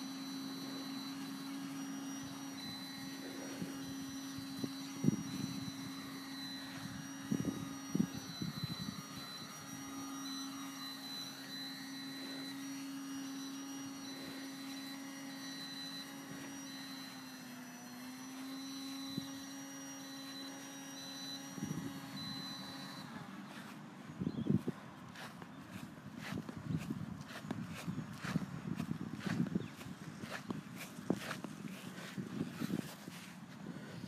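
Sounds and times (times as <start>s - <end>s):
distant model plane engine drone: 0.0s - 34.0s.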